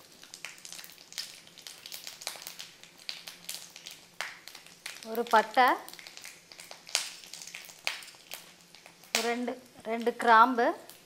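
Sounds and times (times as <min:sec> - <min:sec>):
crackling pops: 0:00.0 - 0:10.2
spices sizzling in hot oil: 0:00.0 - 0:11.0.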